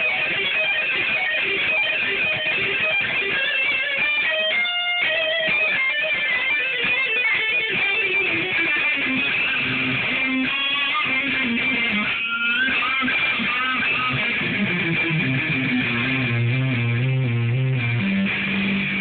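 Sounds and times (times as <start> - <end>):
electric guitar shred runs: 0.0 - 19.0.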